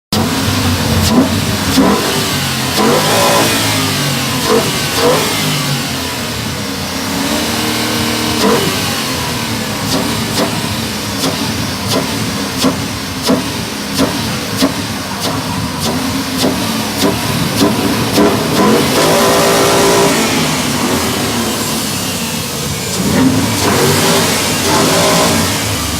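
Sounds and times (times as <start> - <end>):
car engines revving: 0.1 - 25.9.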